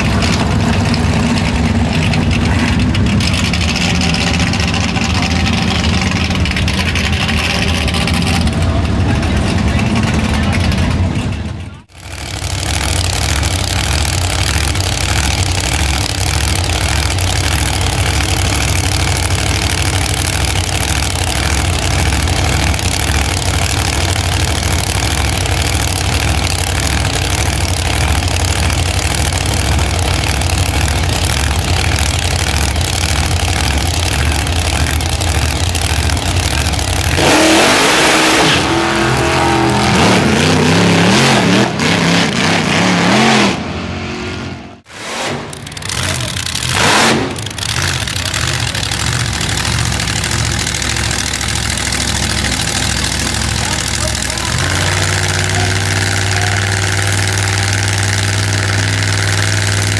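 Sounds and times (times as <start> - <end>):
drag racing engines idling: 0.0 - 59.9
engines revving and accelerating: 0.0 - 59.9.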